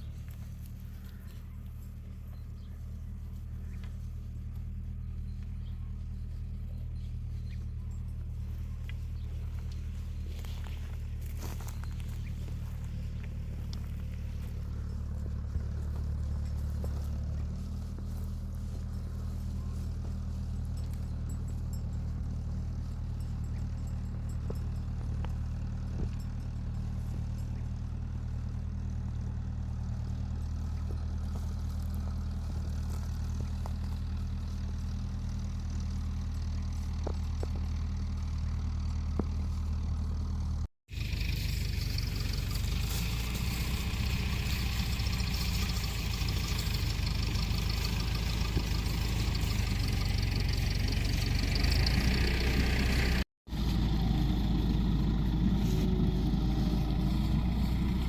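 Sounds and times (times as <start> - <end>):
engine humming: 0.0 - 58.0.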